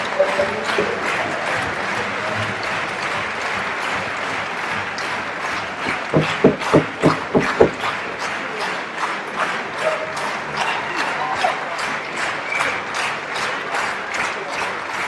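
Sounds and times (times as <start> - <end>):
audience applauding: 0.0 - 15.0
loud hand claps near microphone: 0.0 - 15.0.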